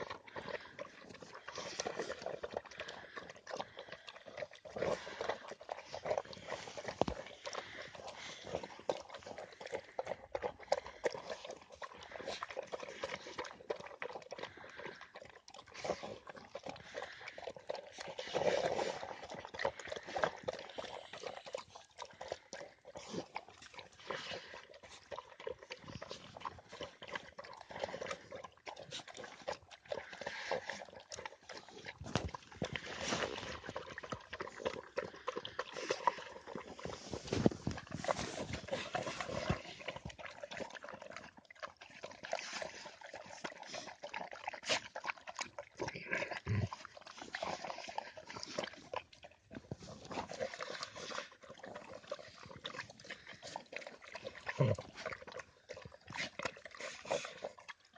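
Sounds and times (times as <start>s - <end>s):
dog chewing and smacking: 0.0s - 57.9s.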